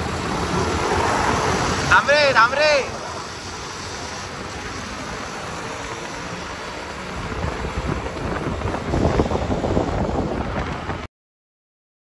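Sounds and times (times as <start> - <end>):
moving vehicle running: 0.0 - 11.1
wind buffeting microphone: 0.0 - 11.1.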